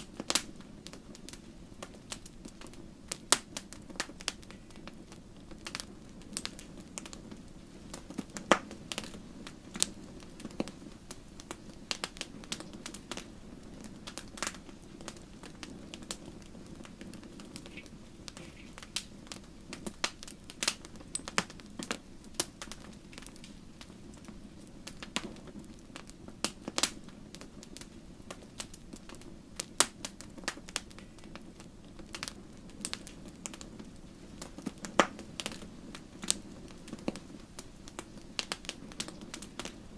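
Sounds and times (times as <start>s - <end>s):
fire crackling and popping: 0.0s - 39.9s
flames rushing: 0.0s - 39.9s.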